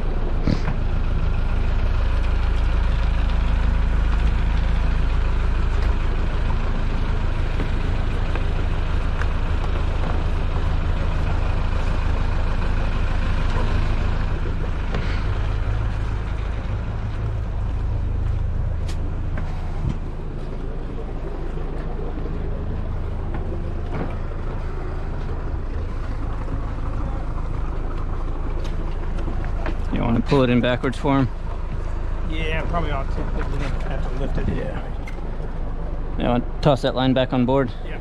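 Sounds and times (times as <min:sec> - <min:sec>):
boat engine idling: 0:00.0 - 0:38.0.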